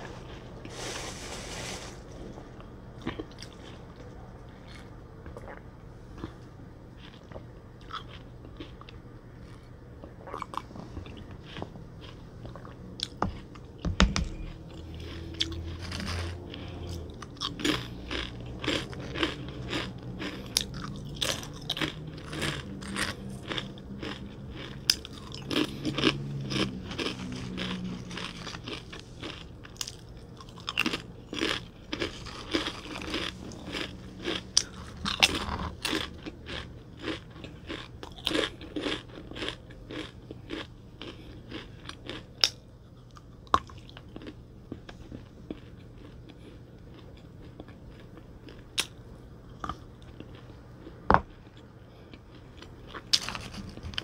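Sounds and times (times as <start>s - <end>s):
crunching and chewing crisp food: 0.0s - 54.0s.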